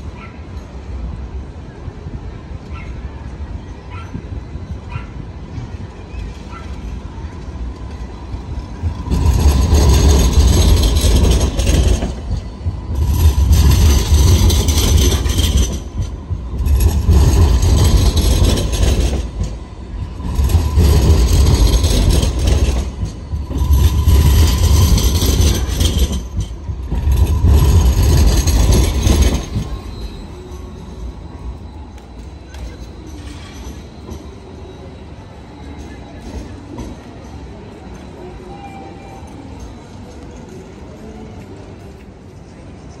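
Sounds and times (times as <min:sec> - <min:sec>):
tram passing: 0:00.0 - 0:43.0.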